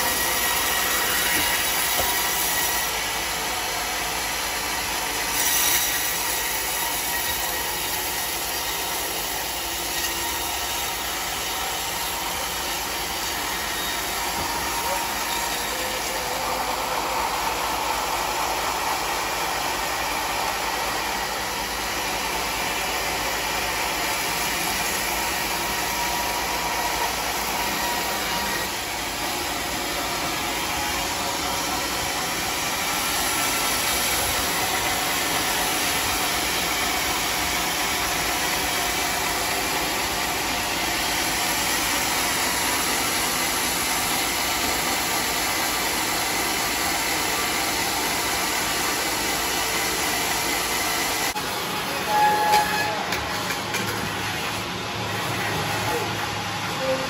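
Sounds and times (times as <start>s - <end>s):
band saw cutting log: 0.0s - 56.2s.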